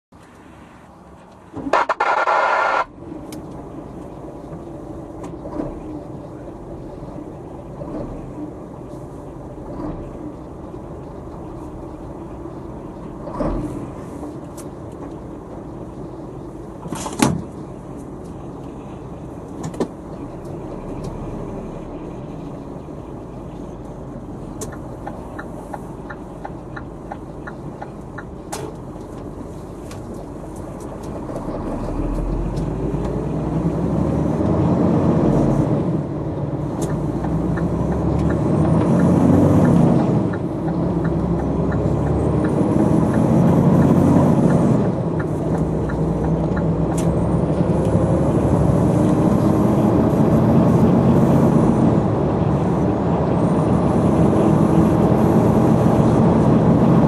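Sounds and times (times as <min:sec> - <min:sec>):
diesel truck engine accelerating: 0:00.2 - 0:57.0.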